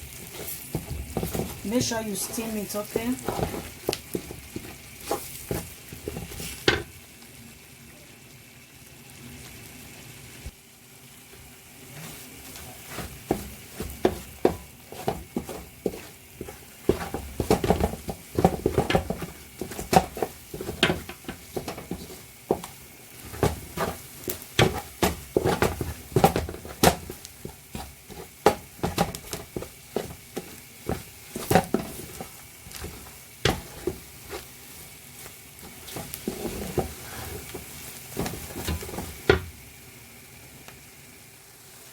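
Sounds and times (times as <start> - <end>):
low sizzle: 0.0 - 41.9.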